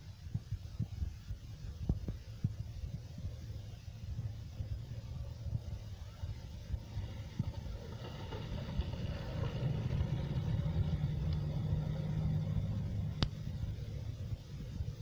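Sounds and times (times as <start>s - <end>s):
truck rumbling along rails: 1.9s - 15.0s.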